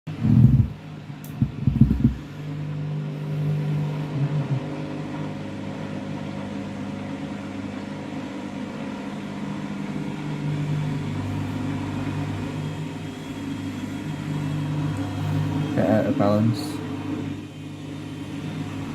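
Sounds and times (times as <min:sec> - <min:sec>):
washing machine motor hum: 0:00.1 - 0:18.9.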